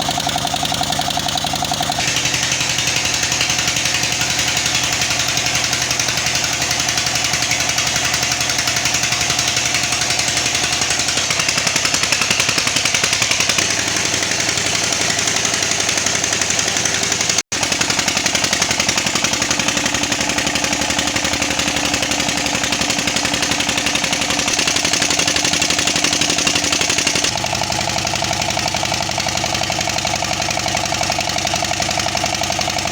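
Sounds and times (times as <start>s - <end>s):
diesel engine knocking: 0.0s - 32.9s.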